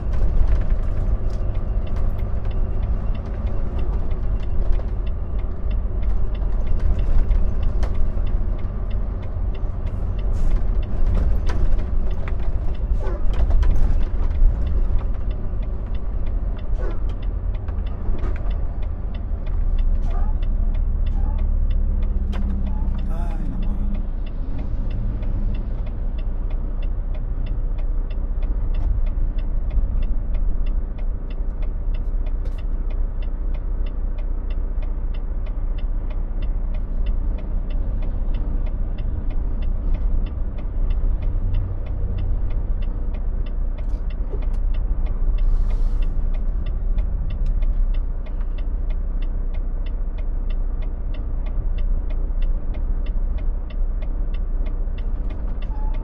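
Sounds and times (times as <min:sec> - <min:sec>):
turn signal ticking: 0:00.0 - 0:56.0.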